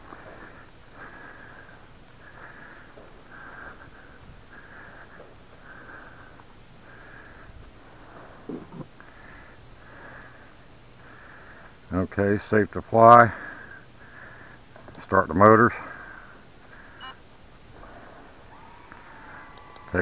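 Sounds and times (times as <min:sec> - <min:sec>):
person breathing close: 0:00.0 - 0:11.8, 0:13.3 - 0:14.6, 0:15.8 - 0:19.4.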